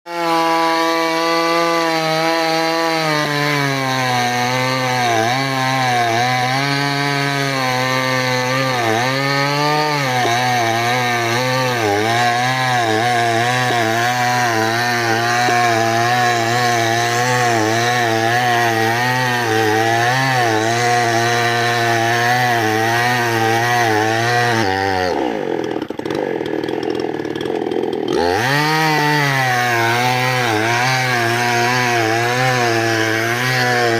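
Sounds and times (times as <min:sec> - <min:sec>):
chainsaw cutting hardwood: 0:00.1 - 0:33.9.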